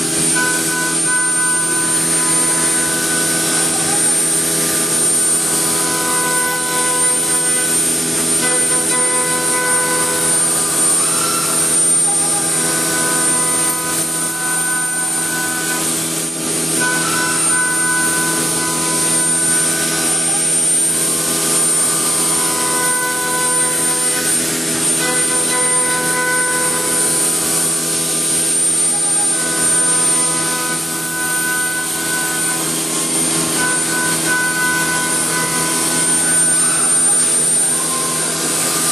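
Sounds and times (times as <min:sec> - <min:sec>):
machine high whine: 0:00.0 - 0:38.9
woodworking machine droning: 0:00.0 - 0:38.9.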